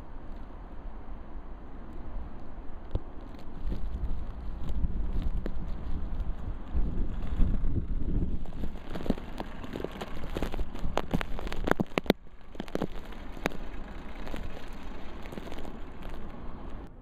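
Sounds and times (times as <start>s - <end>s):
wind buffeting microphone: 0.0s - 17.0s
sharp crackling clicks: 1.9s - 16.9s.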